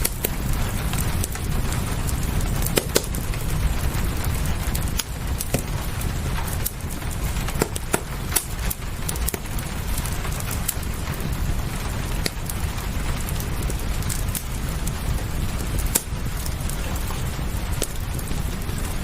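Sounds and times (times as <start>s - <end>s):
rain rumble and hiss: 0.0s - 19.0s
wood fire crackling: 0.0s - 19.0s.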